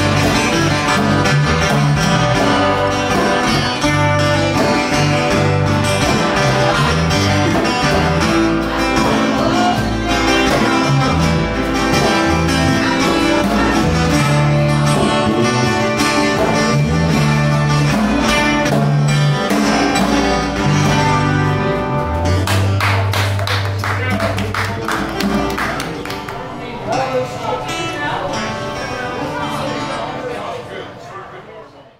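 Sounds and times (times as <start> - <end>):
electric bass: 0.0 - 26.3
acoustic guitars strummed and picked: 0.0 - 30.6.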